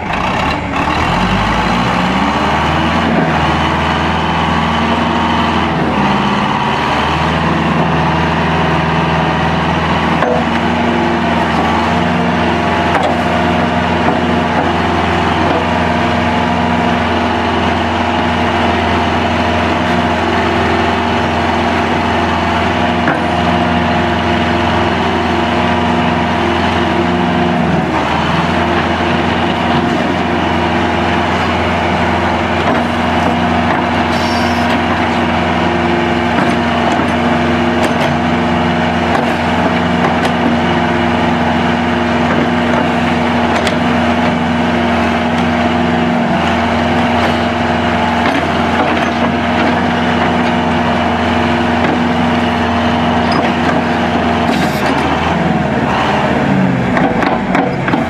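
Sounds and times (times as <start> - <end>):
backhoe engine running: 0.0 - 58.0.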